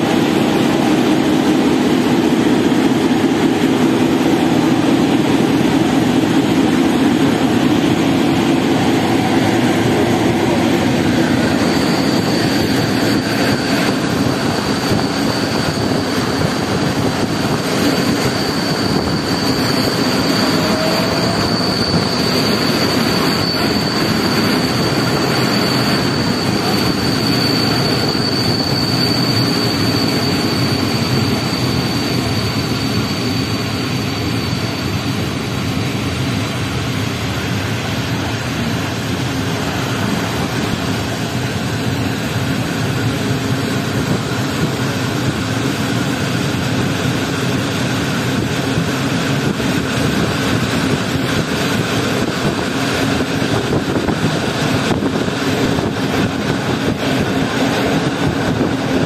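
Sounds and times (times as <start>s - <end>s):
train rumbling on track: 0.0s - 59.0s
train wheel squeal: 0.0s - 59.0s.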